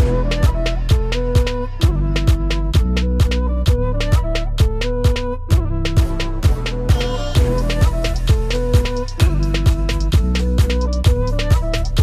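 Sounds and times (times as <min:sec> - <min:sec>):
bass and keyboard notes: 0:00.0 - 0:12.0
kick drum beat: 0:00.0 - 0:12.0.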